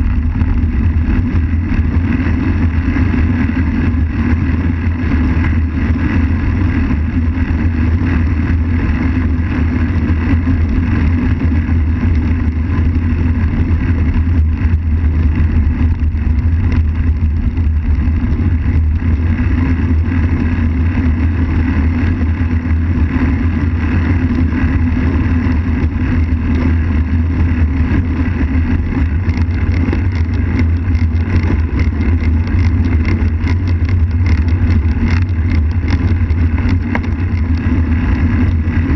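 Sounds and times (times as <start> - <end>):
bike tyres rolling on asphalt: 0.0 - 38.9
wind buffeting microphone: 0.0 - 38.9.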